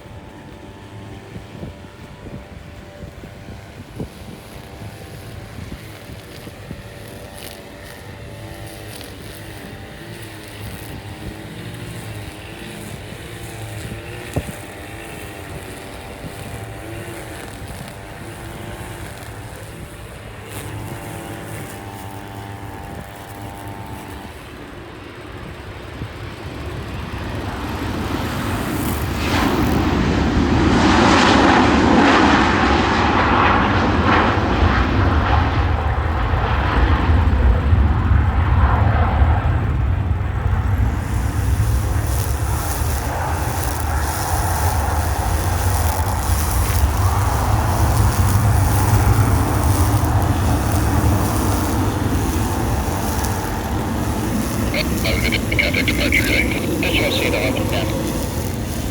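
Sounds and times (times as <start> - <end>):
aircraft roar: 0.0 - 58.9
airplane engines wavering tones: 0.0 - 58.9.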